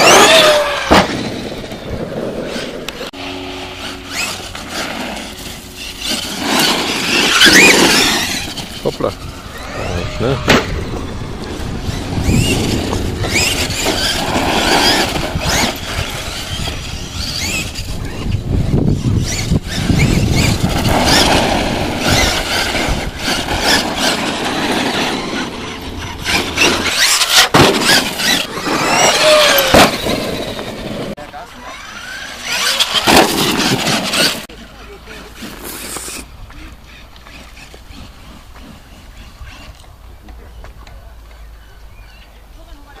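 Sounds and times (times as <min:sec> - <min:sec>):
toy truck motor whining: 0:00.0 - 0:01.5, 0:02.4 - 0:30.8, 0:31.4 - 0:40.0
tyres on dirt and gravel: 0:00.0 - 0:43.0.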